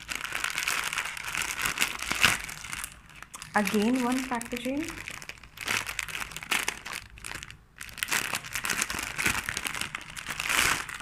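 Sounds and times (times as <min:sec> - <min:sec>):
packaging wrap crumpling: 0:00.0 - 0:11.0.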